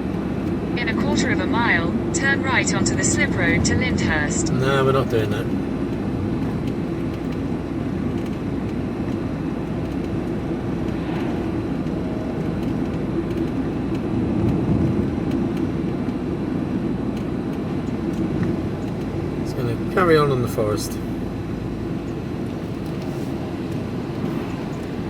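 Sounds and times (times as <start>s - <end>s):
diesel engine drone: 0.0s - 25.0s
road rumble: 0.0s - 25.0s.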